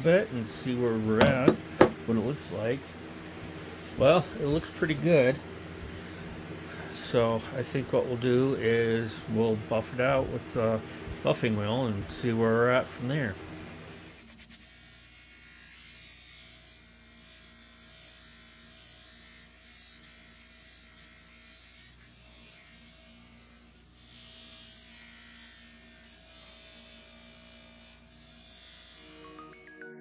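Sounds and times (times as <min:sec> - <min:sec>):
electric motor humming: 0:00.0 - 0:29.7.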